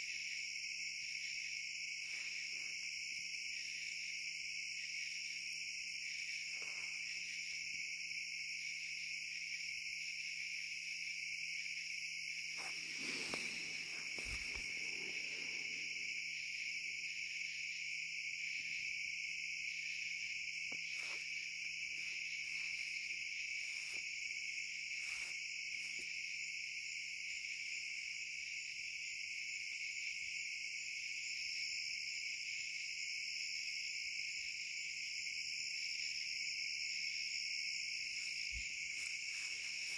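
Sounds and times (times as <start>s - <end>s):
crickets and insects chirring: 0.0s - 39.9s.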